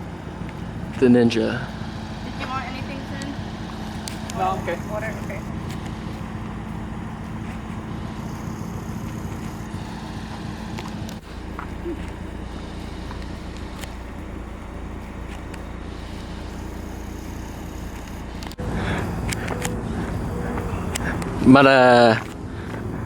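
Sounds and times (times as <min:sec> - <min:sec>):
car engine: 0:00.0 - 0:23.0
road noise: 0:00.0 - 0:23.0.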